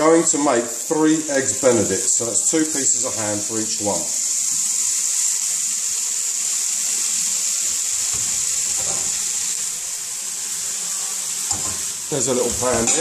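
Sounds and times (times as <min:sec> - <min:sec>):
ham sizzling in frying pan: 0:00.0 - 0:13.0.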